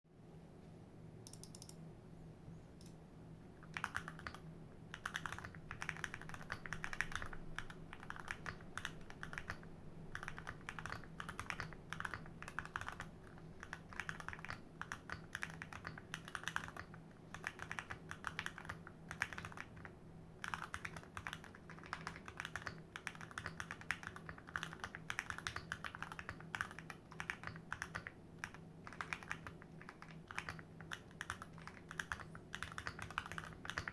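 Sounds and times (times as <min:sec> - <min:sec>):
mechanical keyboard typing: 0:01.3 - 0:01.8, 0:03.6 - 0:33.9.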